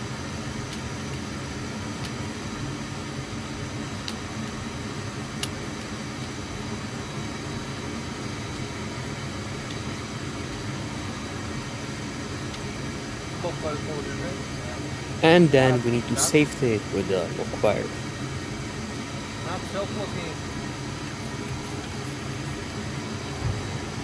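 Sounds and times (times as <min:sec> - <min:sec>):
hangar background hum and hiss: 0:00.0 - 0:24.0.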